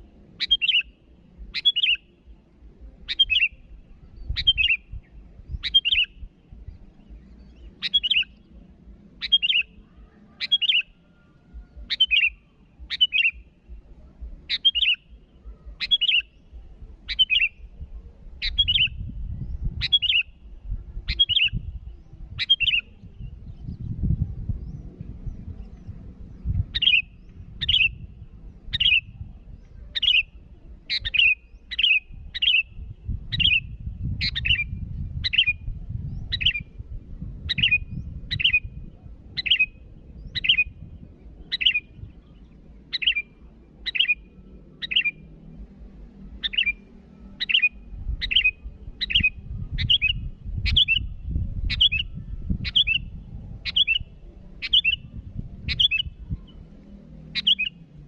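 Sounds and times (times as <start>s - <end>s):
low rumble: 2.2s - 10.4s, 11.0s - 58.0s.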